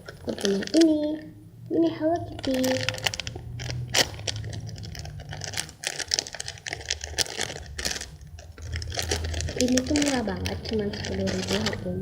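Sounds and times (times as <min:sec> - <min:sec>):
plastic wrapping crinkling: 0:00.0 - 0:01.3, 0:01.9 - 0:12.0.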